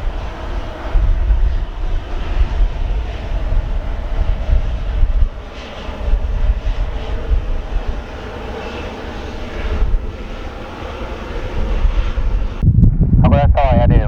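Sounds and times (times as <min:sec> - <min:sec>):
jet engines running: 0:00.0 - 0:14.0
wind buffeting the microphone: 0:00.0 - 0:14.0.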